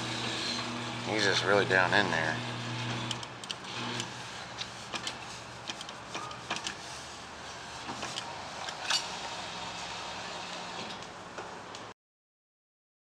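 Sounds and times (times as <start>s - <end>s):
steady machine hum: 0.0s - 11.3s.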